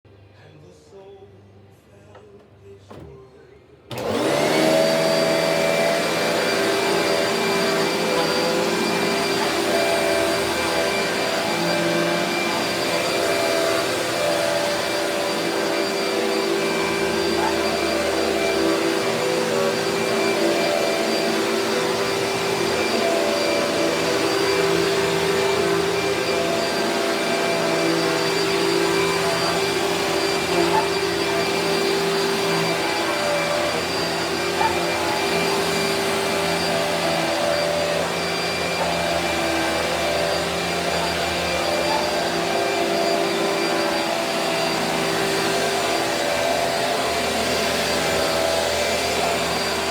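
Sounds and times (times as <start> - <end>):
vacuum cleaner running: 3.9 - 49.9.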